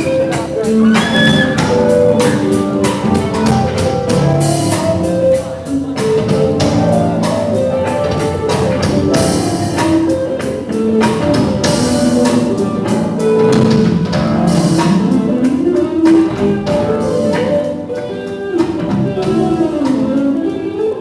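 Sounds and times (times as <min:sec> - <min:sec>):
music with guitar and drums: 0:00.0 - 0:21.0.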